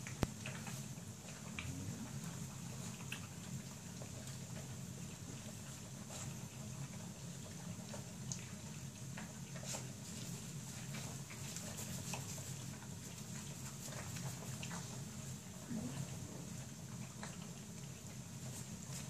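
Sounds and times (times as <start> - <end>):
puppies licking and eating: 0.0 - 19.0
steady low hum: 0.0 - 19.0.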